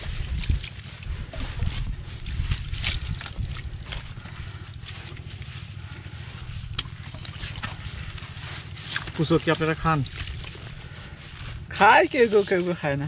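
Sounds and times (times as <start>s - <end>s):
steady low rumble: 0.0s - 13.0s
wet debris rustling and squelching: 0.0s - 13.0s.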